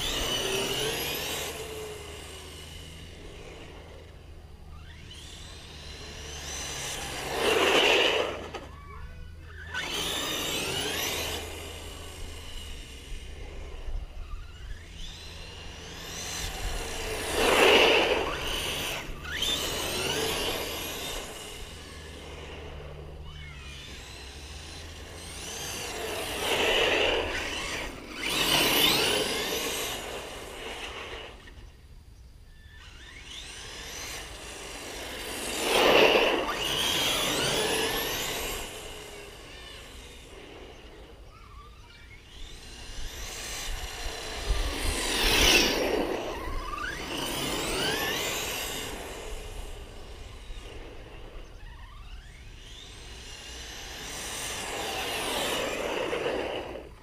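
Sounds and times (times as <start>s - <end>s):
electric motor and gears whining: 0.0s - 57.0s.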